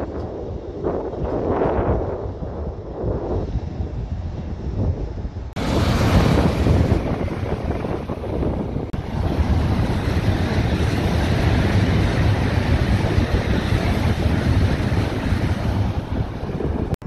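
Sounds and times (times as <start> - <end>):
high-speed train passing: 0.0 - 17.0
wind buffeting microphone: 0.0 - 17.0.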